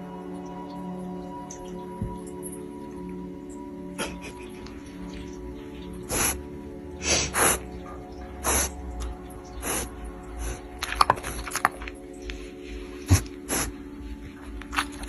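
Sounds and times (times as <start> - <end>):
sustained background music: 0.0 - 15.0.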